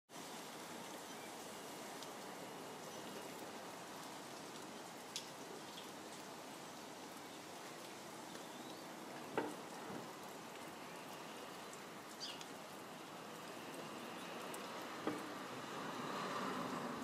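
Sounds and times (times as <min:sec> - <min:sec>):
rain pattering: 0:00.1 - 0:17.0.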